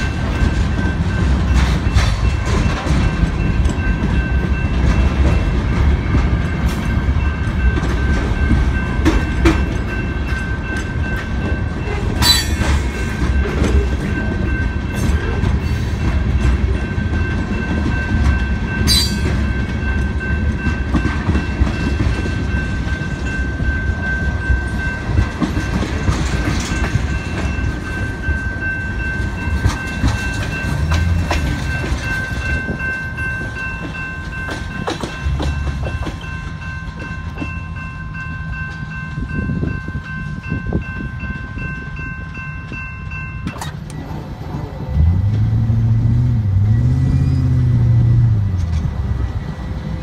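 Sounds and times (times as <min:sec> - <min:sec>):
crossing warning bell ringing: 0:00.0 - 0:50.0
train wheels clacking on rail joints: 0:00.0 - 0:50.0.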